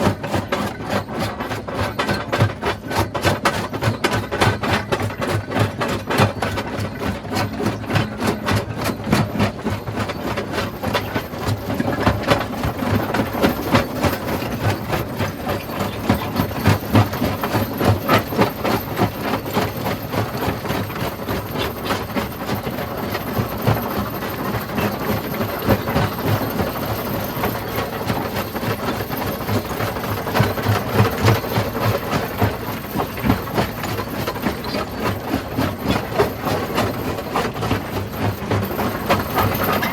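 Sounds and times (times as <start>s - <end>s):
rock crushing machine grinding: 0.0s - 39.9s.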